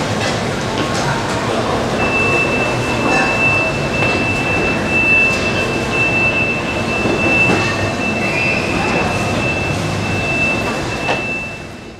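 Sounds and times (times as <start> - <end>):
murmur of voices: 0.0 - 11.6.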